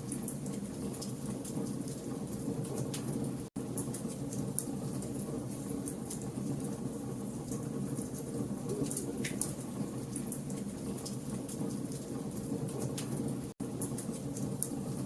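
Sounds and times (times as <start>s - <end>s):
campfire flames rumbling: 0.0s - 15.0s.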